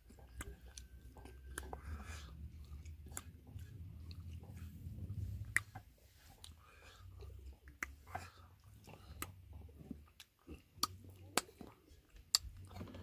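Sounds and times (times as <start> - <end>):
person chewing food: 0.0 - 13.0
wet mouth clicks and smacks: 0.1 - 6.6, 7.2 - 12.9.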